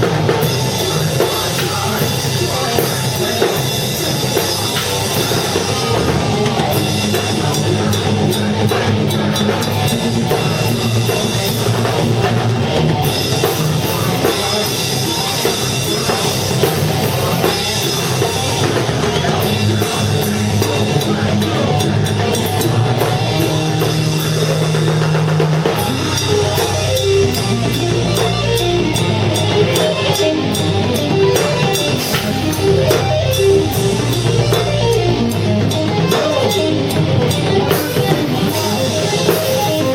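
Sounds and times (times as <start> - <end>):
drum kit beat: 0.0 - 39.9
guitars: 0.0 - 39.9
low bass notes: 0.0 - 39.9.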